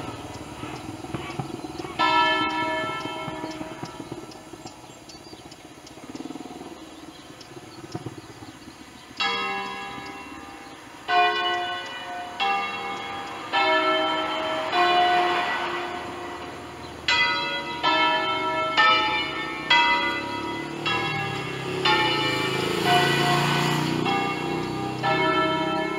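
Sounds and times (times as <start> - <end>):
church bells ringing: 0.0 - 4.9, 9.1 - 25.9.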